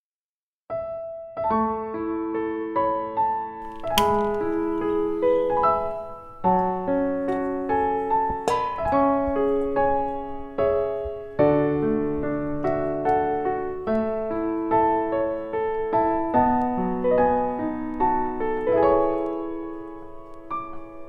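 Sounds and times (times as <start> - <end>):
gentle piano melody: 0.7 - 21.0.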